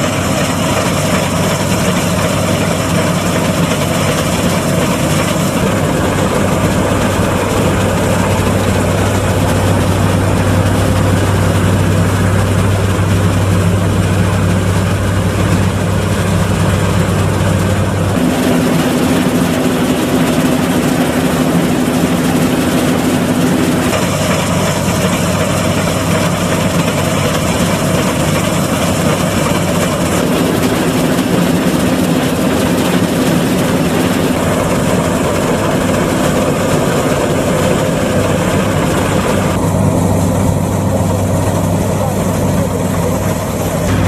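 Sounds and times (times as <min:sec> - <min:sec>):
combine harvester engine drone: 0:00.0 - 0:44.0.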